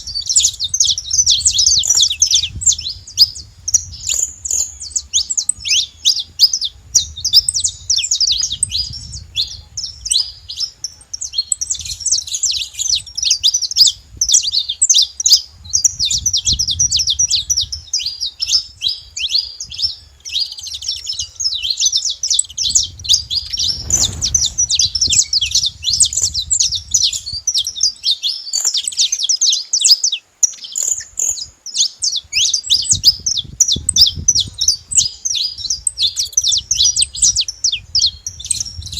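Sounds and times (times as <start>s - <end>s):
flock of finches chirping: 0.0s - 38.9s.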